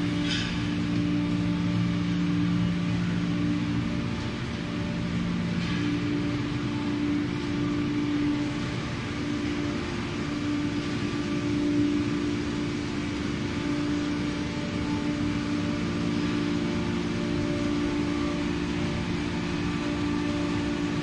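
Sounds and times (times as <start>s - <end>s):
baler machinery humming: 0.0s - 21.0s.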